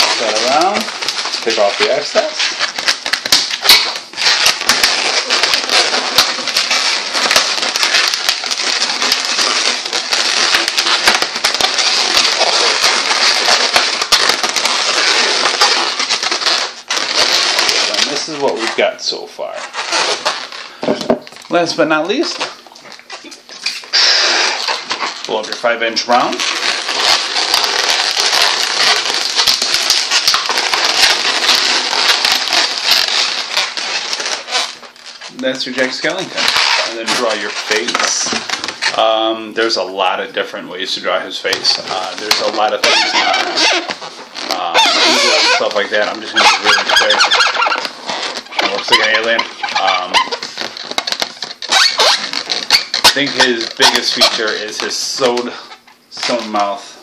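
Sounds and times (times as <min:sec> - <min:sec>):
balloons rubbing and creaking: 0:00.0 - 0:57.0.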